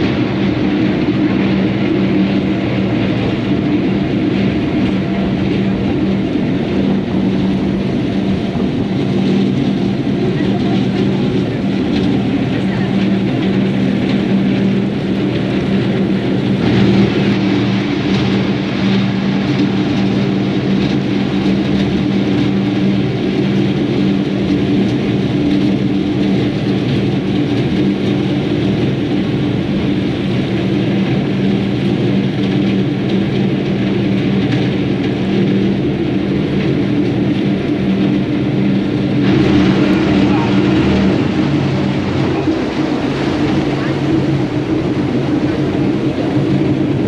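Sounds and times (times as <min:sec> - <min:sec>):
diesel engine drone: 0:00.0 - 0:47.0
wake water rushing: 0:00.0 - 0:47.0.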